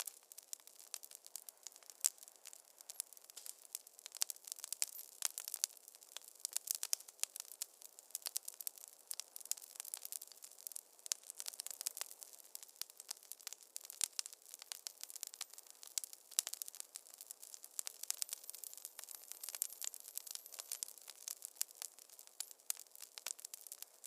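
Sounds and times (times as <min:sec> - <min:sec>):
fire hissing softly: 0:00.0 - 0:24.0
wood fire crackling: 0:00.0 - 0:24.0.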